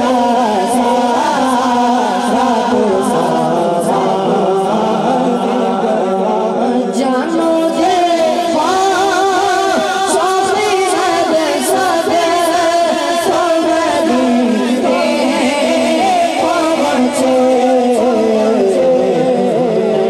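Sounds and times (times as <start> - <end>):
boy singing into a microphone: 0.0 - 20.0.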